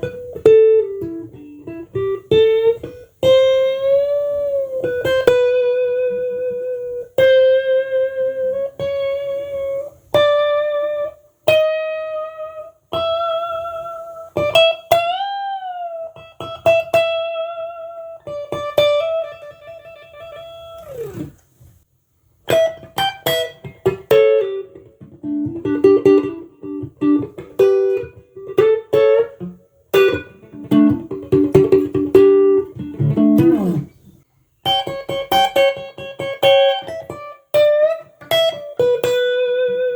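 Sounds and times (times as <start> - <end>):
solo electric guitar melody: 0.0 - 21.5, 22.4 - 39.9.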